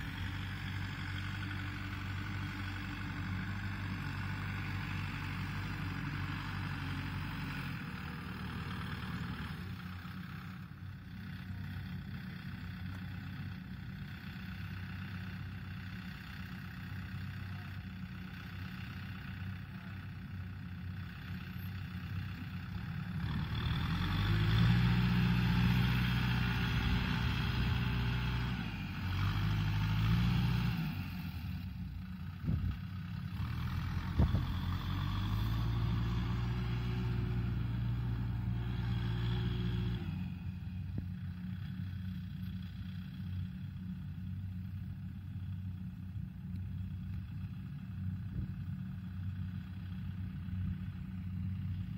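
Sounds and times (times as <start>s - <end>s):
tractor diesel engine: 0.0s - 51.9s.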